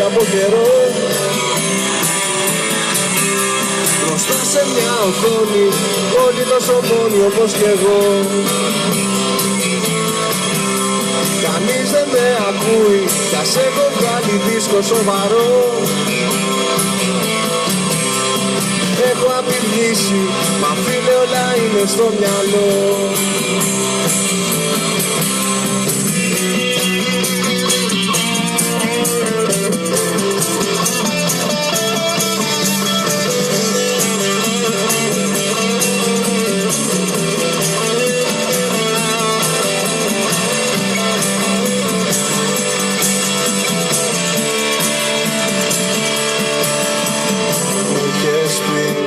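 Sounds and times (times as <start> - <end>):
lead guitar: 0.0 - 49.0
live band playing instrumental: 0.0 - 49.0.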